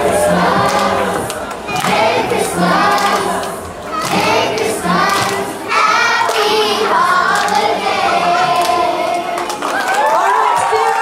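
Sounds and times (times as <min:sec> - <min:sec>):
children's choir singing: 0:00.0 - 0:09.8.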